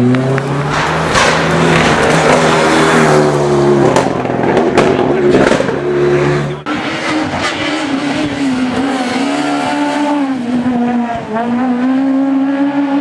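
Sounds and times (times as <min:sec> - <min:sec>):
tyre noise: 0:00.0 - 0:11.3
rally car engine at high revs: 0:00.0 - 0:13.0.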